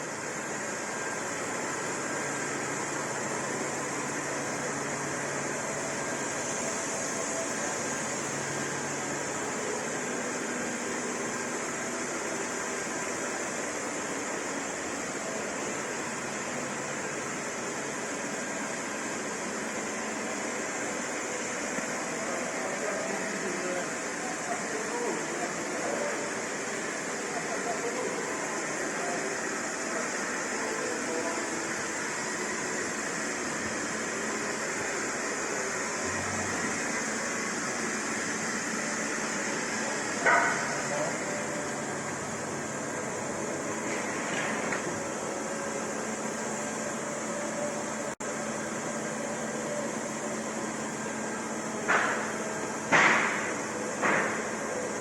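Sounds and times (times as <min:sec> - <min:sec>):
machine fans hissing: 0:00.0 - 0:55.0.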